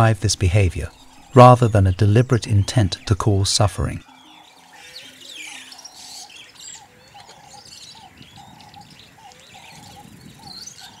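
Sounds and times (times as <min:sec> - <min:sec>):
wild birds chirping: 0:00.0 - 0:11.0.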